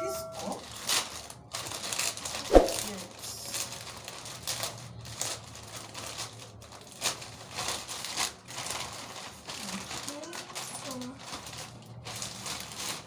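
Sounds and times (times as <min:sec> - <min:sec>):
packaging rustling: 0:00.4 - 0:13.0.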